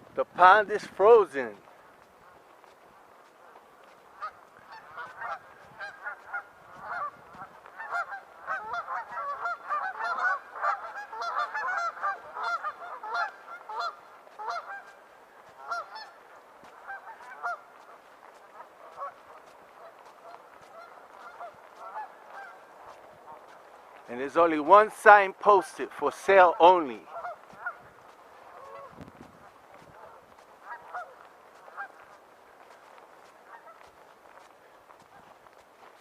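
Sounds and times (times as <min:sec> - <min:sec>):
geese honking: 0:03.3 - 0:35.6.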